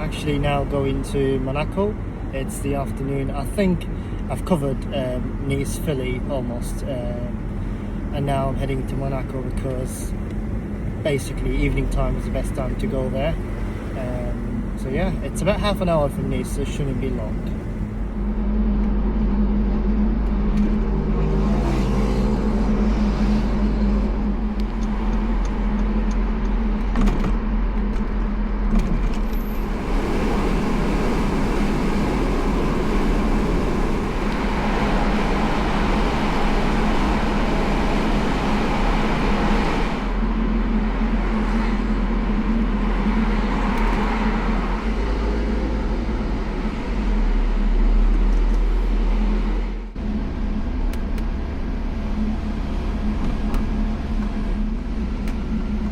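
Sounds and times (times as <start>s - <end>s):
car engine drone: 0.0s - 55.9s
tyre and road noise: 0.0s - 55.9s.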